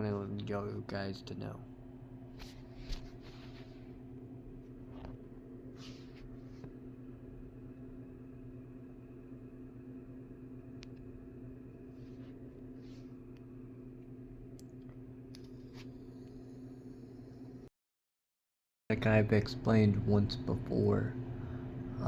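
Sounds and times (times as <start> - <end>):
steady low hum: 0.0 - 17.7, 18.9 - 22.0.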